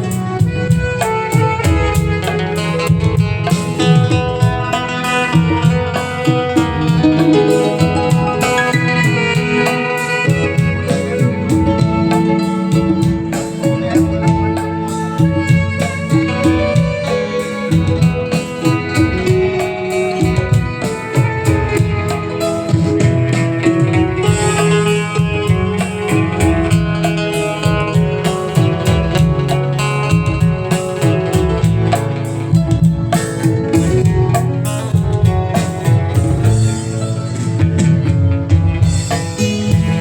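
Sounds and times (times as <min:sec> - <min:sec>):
instrumental music with steady beat: 0:00.0 - 0:40.0.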